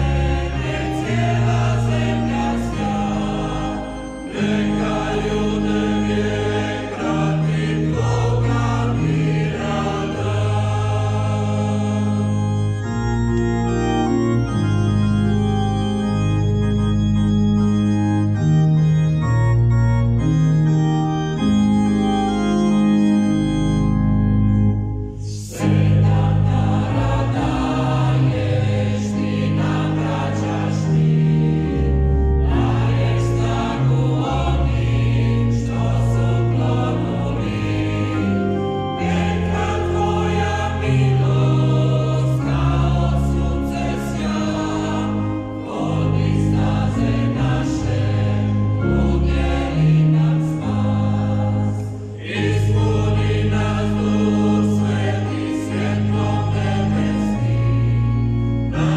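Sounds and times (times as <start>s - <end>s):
choir singing a hymn: 0.0s - 17.0s, 25.2s - 58.9s
sustained organ chords: 0.0s - 58.9s.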